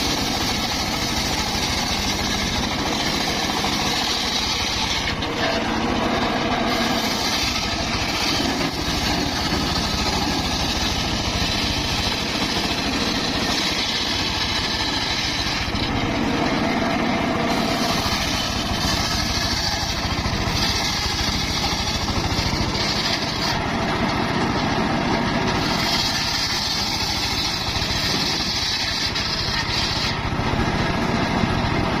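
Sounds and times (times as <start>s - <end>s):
circular saw cutting wood: 0.0s - 32.0s.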